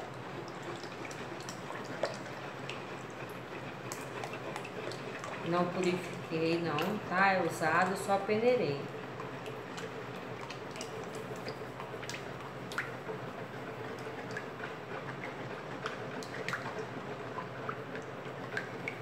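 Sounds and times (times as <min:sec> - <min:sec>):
liquid pouring and sloshing: 0:00.0 - 0:19.0.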